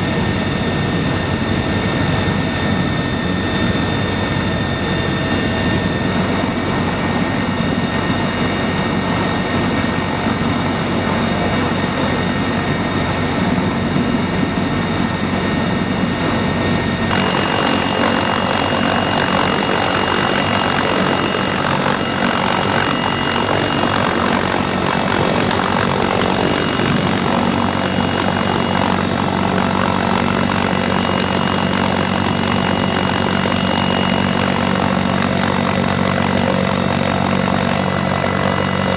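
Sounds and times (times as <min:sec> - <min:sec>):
helicopter turbine whine: 0:00.0 - 0:38.9
rotor drone: 0:00.0 - 0:38.9.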